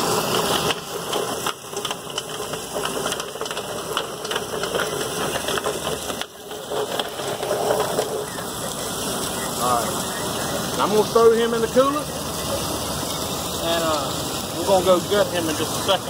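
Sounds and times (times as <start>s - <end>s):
poultry plucker rattling: 0.0s - 16.0s.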